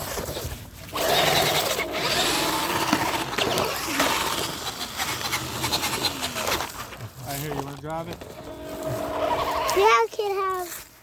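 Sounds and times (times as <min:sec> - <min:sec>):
toy truck electric motor whining: 0:00.0 - 0:07.0, 0:08.1 - 0:10.0.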